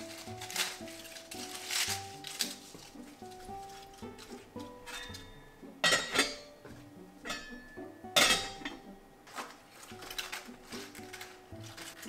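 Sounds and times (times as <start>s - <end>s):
dishes and utensils clinking: 0.0s - 12.0s.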